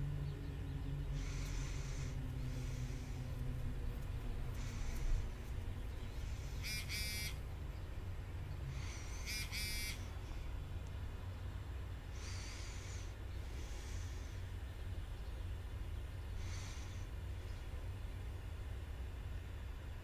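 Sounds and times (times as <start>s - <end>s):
steady low drone: 0.0s - 20.0s.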